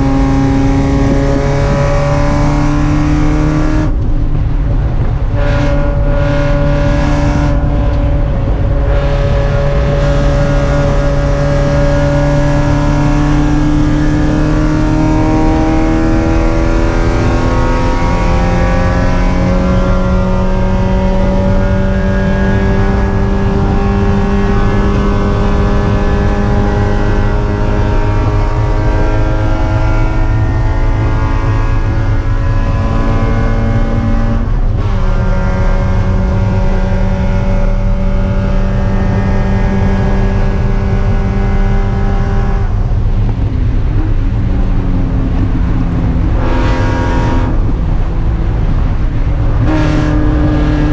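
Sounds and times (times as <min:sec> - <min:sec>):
car engine revving high: 0:00.0 - 0:50.9.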